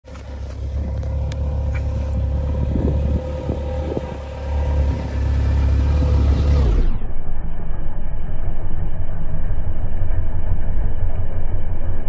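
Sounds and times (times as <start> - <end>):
engine deep rumble: 0.0 - 12.0
engine whine: 0.0 - 12.0.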